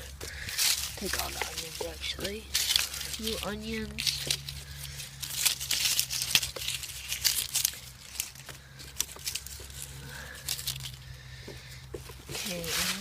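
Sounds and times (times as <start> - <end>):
plants rustling and snapping: 0.0 - 13.0.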